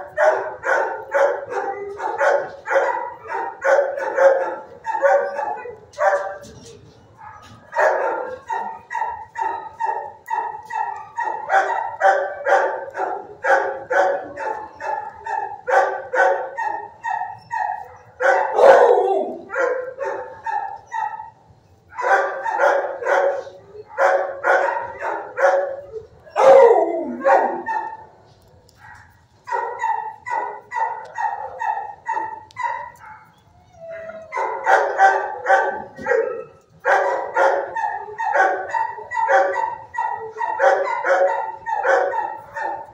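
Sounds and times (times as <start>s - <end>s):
dogs barking: 0.0s - 42.9s.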